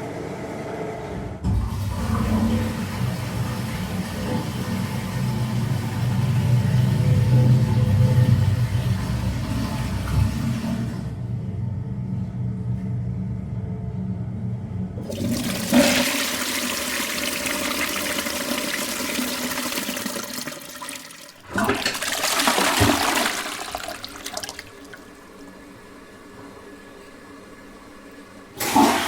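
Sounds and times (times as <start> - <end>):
toilet flushing: 0.0 - 11.3, 15.0 - 29.0.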